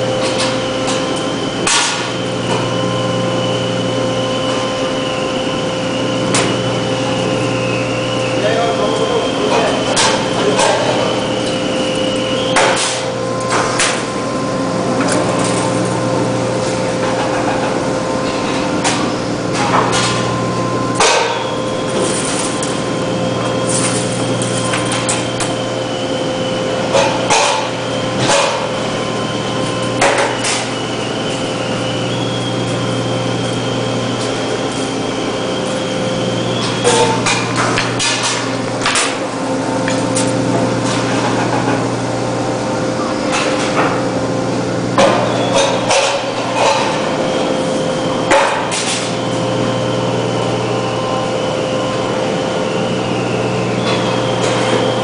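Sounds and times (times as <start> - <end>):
high machine whine: 0.0 - 55.0
machine humming: 0.0 - 55.0.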